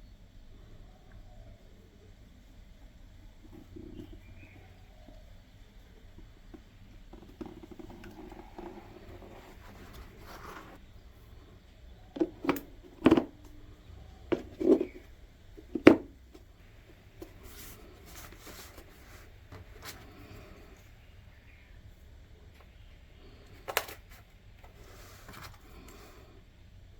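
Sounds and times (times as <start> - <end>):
faint room noise: 0.0 - 26.9.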